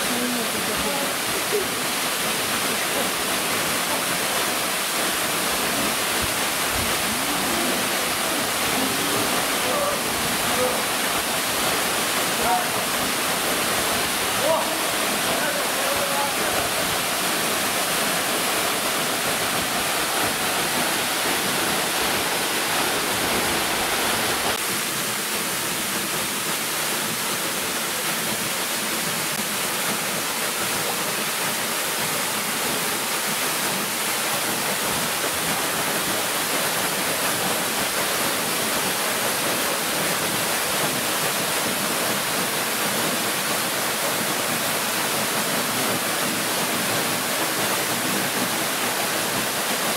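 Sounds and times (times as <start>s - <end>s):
rushing water: 0.0s - 49.9s.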